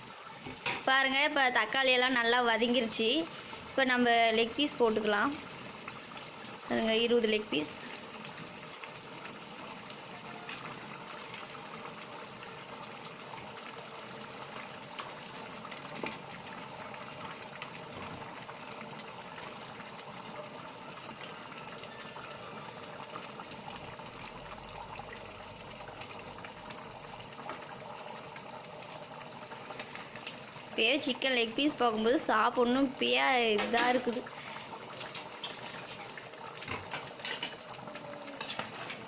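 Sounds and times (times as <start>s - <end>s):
pot sizzling and bubbling: 0.0s - 39.0s.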